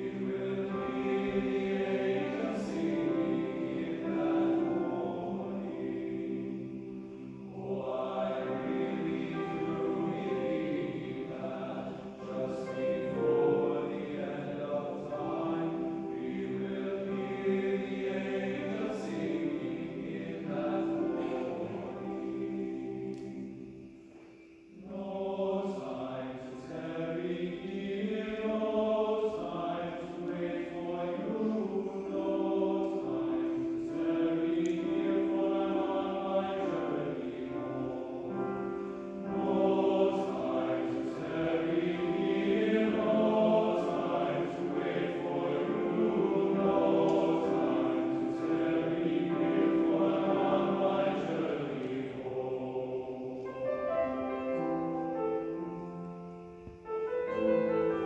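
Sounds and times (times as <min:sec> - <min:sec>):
men's choir singing: 0:00.0 - 0:58.0.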